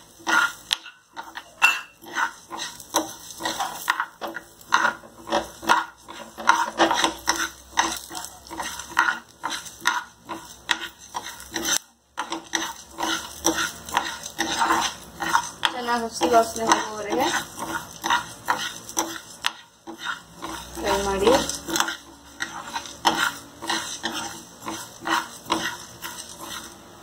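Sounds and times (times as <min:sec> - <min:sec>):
metal spoon scraping a frying pan: 0:00.0 - 0:27.0.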